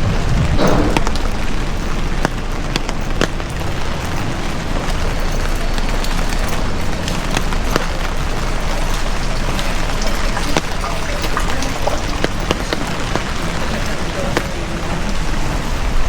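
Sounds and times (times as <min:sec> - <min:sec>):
heavy rain hissing: 0:00.0 - 0:16.0
raindrops striking close by: 0:00.0 - 0:16.0.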